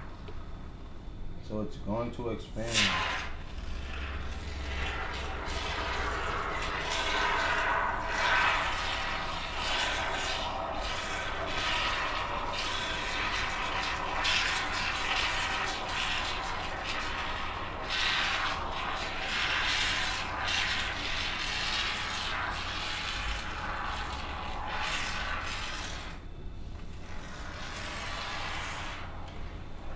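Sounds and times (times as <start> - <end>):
aerosol foam spraying hiss: 2.8 - 26.2, 27.0 - 29.2.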